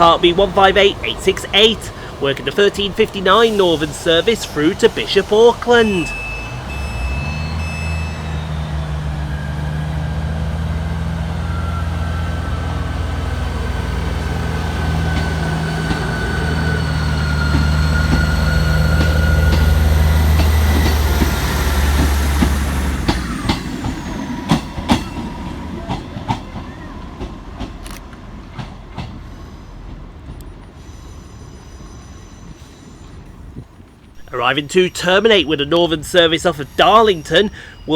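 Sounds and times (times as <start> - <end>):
diesel engines droning: 0.0 - 28.1, 33.8 - 37.9.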